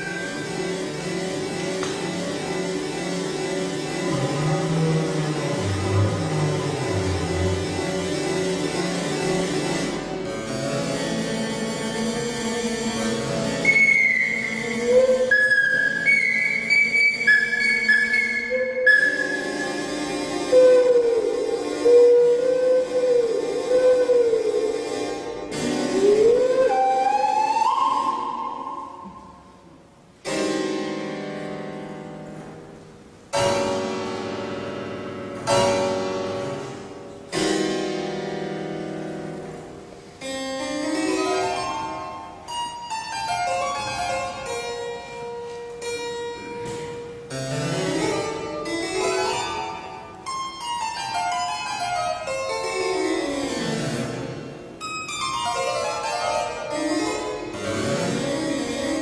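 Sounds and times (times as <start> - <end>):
harpsichord playing: 0.0 - 59.0.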